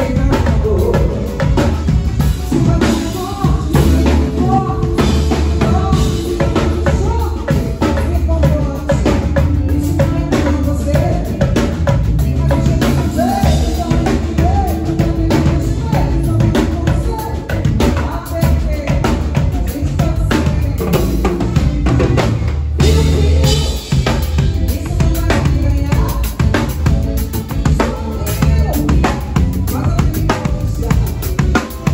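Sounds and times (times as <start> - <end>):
bass drum thumping: 0.0 - 31.9
drum rimshots: 0.0 - 31.9
live band playing: 0.0 - 31.9
person singing: 0.0 - 31.9.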